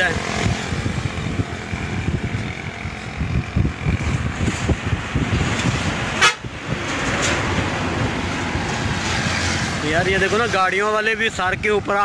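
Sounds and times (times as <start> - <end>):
loud rush of noise: 0.0 - 12.0
trucks passing on bridge: 0.0 - 12.0
wind buffeting microphone: 0.0 - 12.0.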